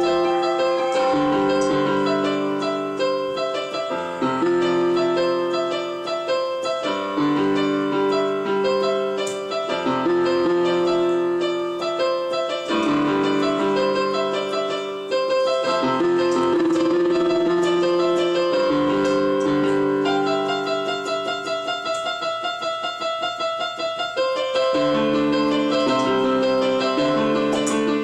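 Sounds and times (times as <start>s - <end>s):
electronic keyboard piano chords: 0.0s - 28.0s.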